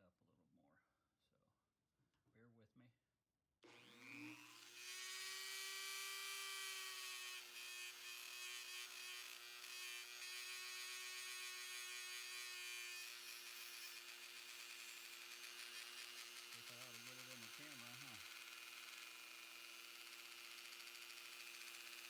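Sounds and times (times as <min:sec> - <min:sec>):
rotary tool whining: 0:03.7 - 0:22.0.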